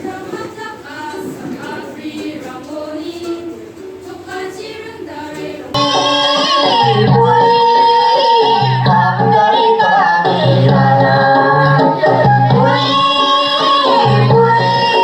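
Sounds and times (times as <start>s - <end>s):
group of voices singing: 0.0s - 15.0s
music with singing: 0.0s - 15.0s.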